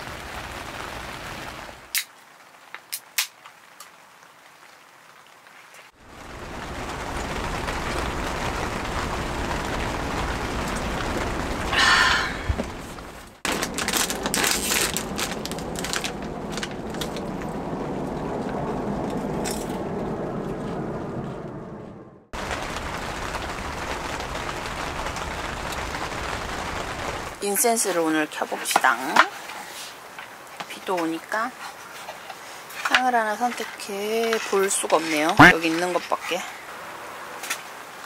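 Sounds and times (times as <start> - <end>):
rain falling on a tent: 0.0 - 19.8, 22.3 - 38.0.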